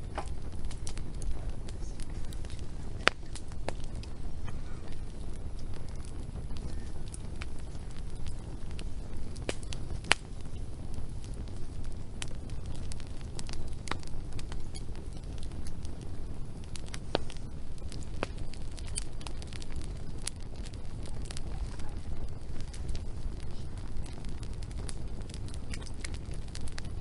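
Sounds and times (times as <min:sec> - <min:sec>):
low rumble: 0:00.0 - 0:27.0
wood fire crackling and popping: 0:00.0 - 0:27.0.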